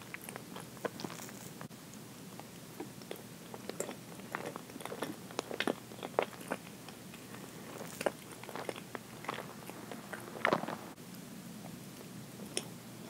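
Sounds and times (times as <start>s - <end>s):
chewing soft cake: 0.0s - 12.8s.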